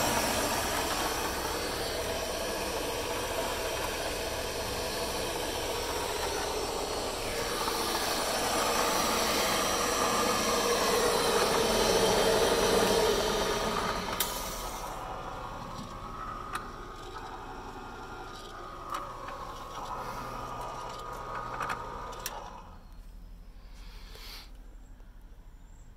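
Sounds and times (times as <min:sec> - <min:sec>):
blender drive mechanical rattle: 0:00.0 - 0:22.9.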